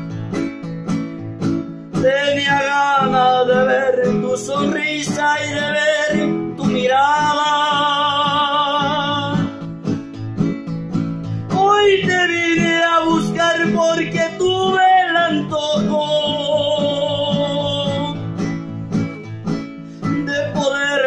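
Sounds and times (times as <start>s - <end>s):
classical guitar strumming: 0.0s - 21.0s
man singing: 1.9s - 9.7s, 11.4s - 21.0s.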